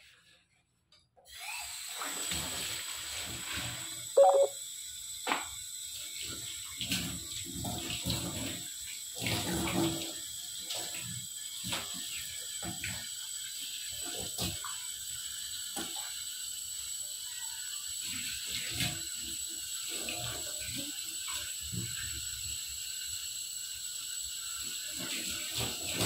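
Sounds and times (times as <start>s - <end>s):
tap water running into sink: 1.7s - 26.0s.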